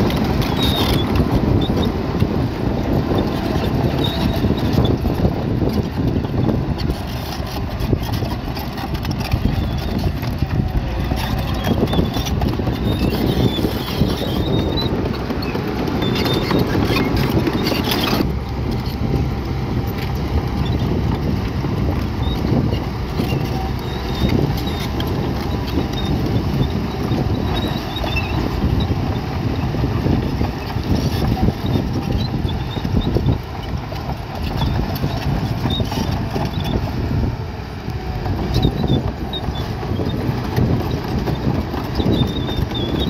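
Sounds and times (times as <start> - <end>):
heavy machinery engine: 0.0 - 43.0.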